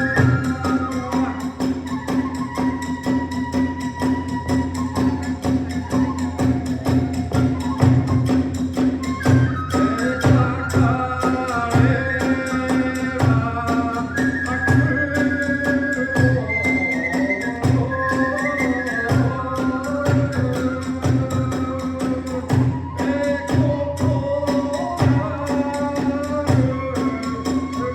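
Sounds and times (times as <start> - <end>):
bamboo flute melody: 0.0 - 27.9
drum beats: 0.0 - 27.9.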